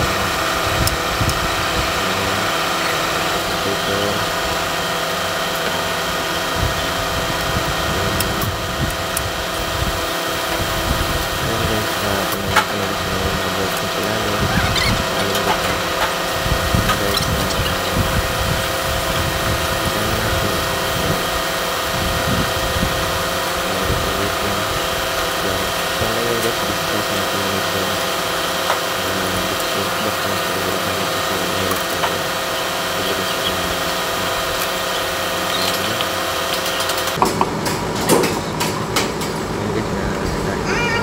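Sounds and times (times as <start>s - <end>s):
machine humming: 0.0s - 41.0s.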